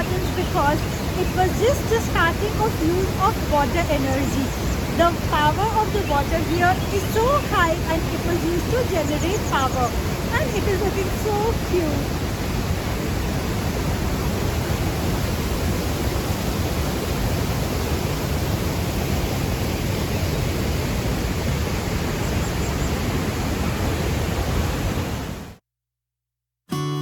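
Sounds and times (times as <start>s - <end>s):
waterfall pouring loudly: 0.0s - 25.5s.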